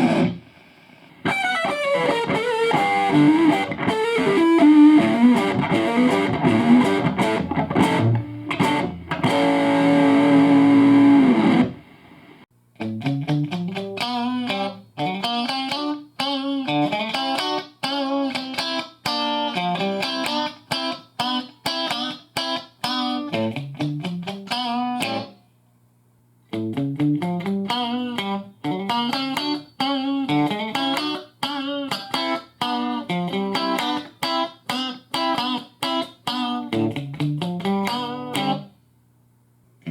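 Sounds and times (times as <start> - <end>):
electric guitar through amp: 0.0 - 25.3, 26.6 - 38.7.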